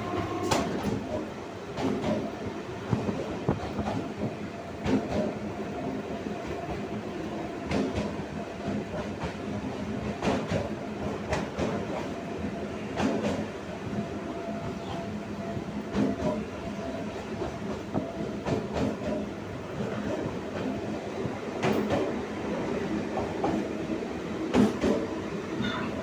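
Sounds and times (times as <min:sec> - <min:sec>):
electric train rumbling on track: 0:00.0 - 0:26.0.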